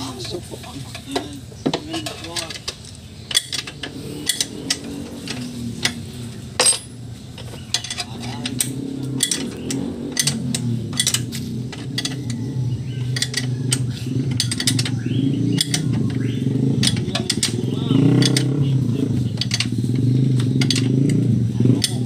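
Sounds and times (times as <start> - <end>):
metal tools clinking: 0.0 - 22.0.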